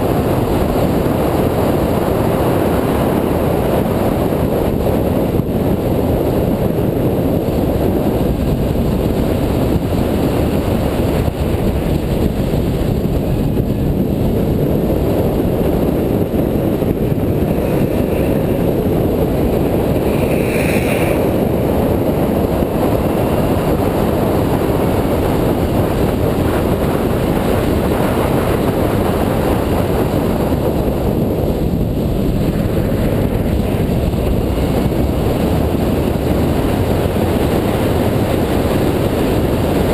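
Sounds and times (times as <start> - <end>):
car engine at speed: 0.0 - 39.9
road noise: 0.0 - 39.9
wind rush over microphone: 0.0 - 39.9.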